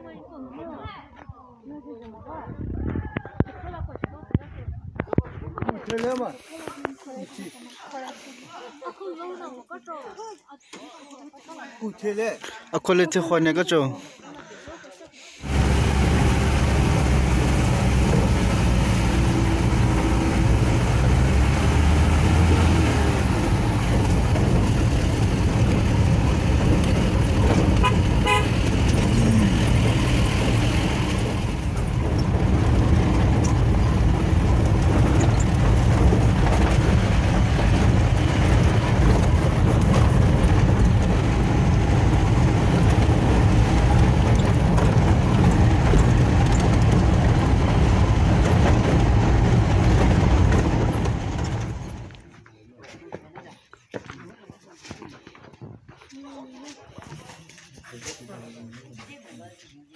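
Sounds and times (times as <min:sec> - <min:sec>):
vehicle engine and road rumble: 0:11.1 - 0:59.9.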